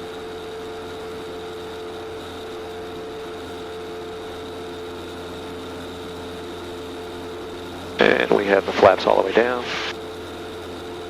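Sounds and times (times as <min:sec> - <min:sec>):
aircraft engine droning: 0:00.0 - 0:11.0
constant whine: 0:00.0 - 0:11.0.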